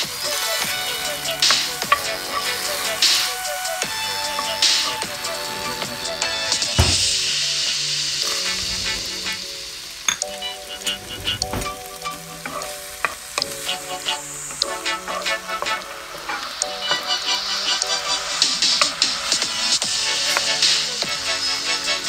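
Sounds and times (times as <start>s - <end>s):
vegetables sizzling in a pan: 0.0s - 5.8s, 6.4s - 22.0s
background music: 0.0s - 22.0s.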